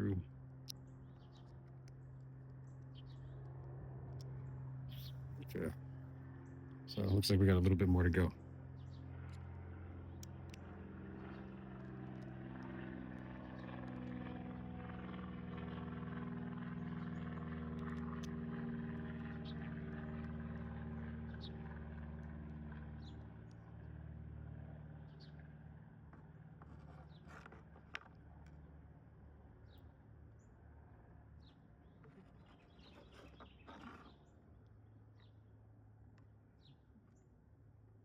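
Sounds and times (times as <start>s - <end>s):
low engine hum: 0.0s - 36.2s.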